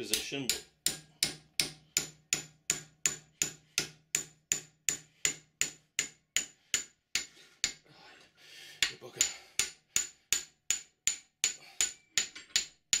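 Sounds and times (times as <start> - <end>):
hammer tapping metal: 0.0 - 7.8, 8.8 - 13.0.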